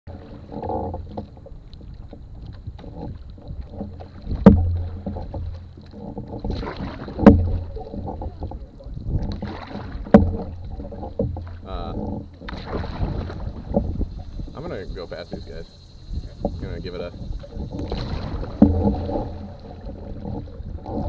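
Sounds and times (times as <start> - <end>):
paddle knocking against metal canoe: 0.1 - 21.0
paddle swishing through water: 0.1 - 21.0.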